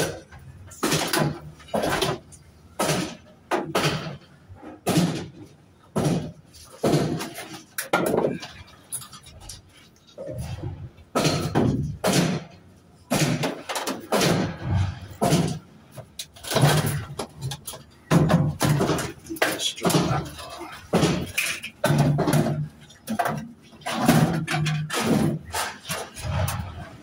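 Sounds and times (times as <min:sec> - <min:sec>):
scrap metal clanking and crashing: 0:00.0 - 0:27.0.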